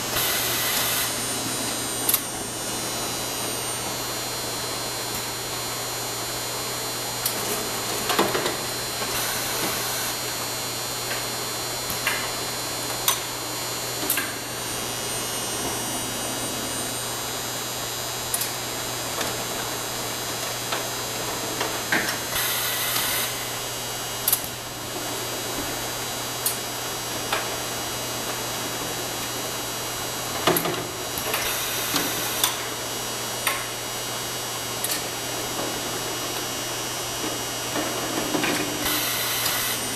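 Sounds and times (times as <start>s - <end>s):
machinery electrical hum: 0.0s - 39.9s.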